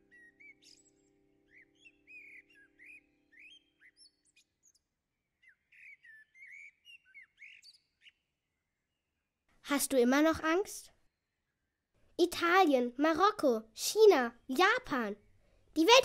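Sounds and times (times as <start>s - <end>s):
birds chirping and twittering: 0.0s - 9.6s, 10.2s - 13.2s, 14.1s - 16.0s.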